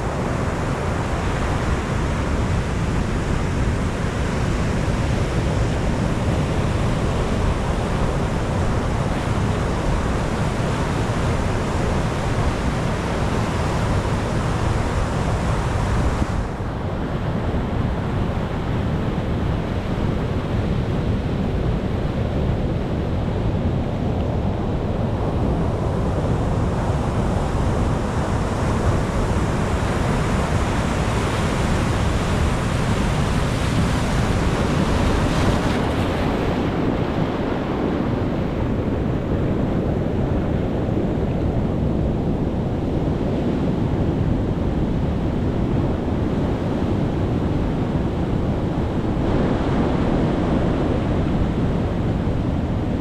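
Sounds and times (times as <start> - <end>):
sea surf washing: 0.0 - 22.2, 22.8 - 53.0.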